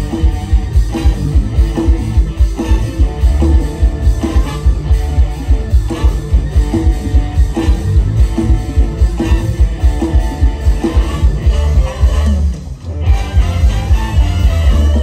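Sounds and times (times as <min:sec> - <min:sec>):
electric guitar: 0:00.0 - 0:15.0
fast drum beat: 0:00.0 - 0:15.0.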